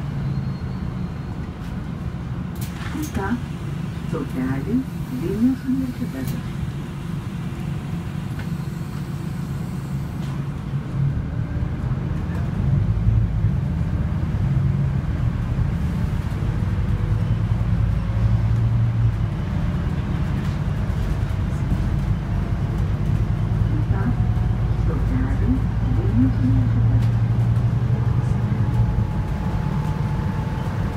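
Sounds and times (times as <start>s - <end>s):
bus engine rumble: 0.0s - 30.9s
road noise: 0.0s - 30.9s.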